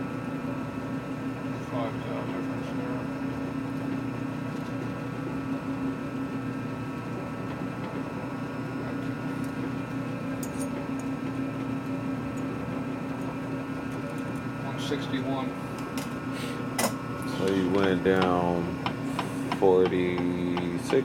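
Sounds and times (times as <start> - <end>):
machine tool humming: 0.0 - 21.0.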